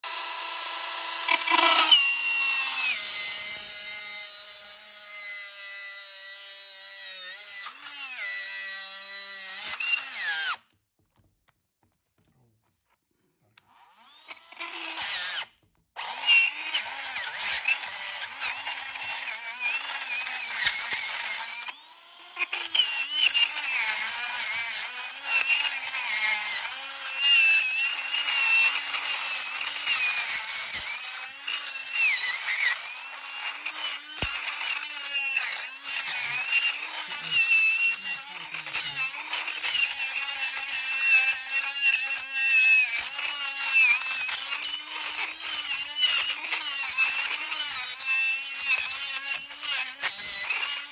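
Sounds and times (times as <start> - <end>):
rotary tool grinding metal: 0.0 - 10.7, 13.6 - 50.9.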